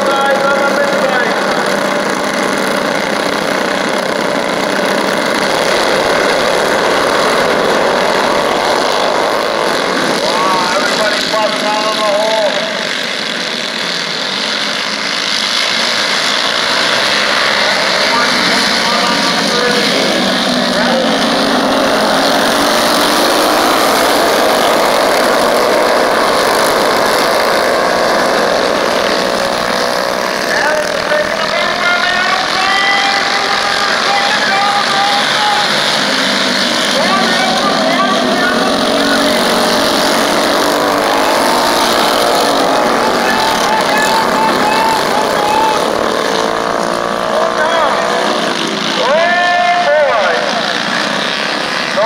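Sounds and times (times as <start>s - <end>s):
mini bike engines droning: 0.0s - 52.0s.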